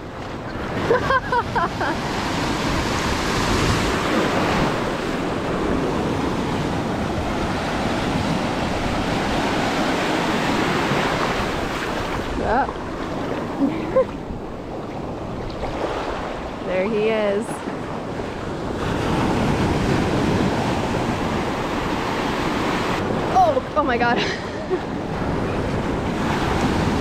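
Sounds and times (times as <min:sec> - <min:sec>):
small waves breaking: 0:00.0 - 0:27.0.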